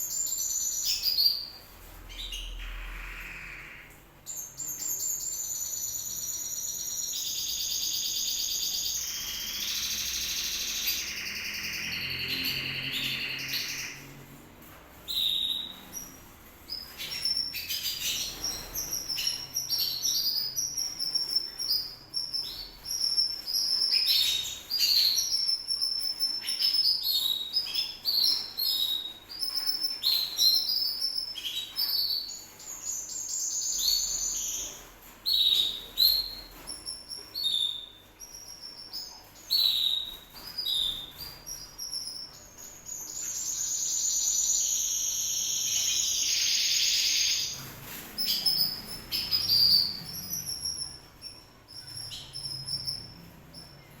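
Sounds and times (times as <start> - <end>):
canary singing: 0.0 - 14.4, 15.0 - 54.0.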